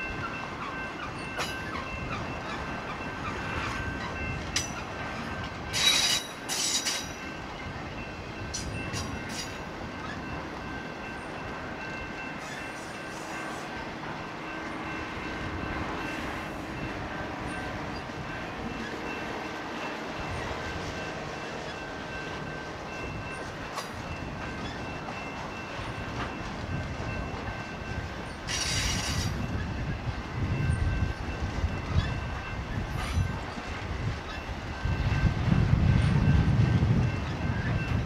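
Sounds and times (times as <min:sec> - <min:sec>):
freight train rumbling and clacking: 0:00.0 - 0:38.0.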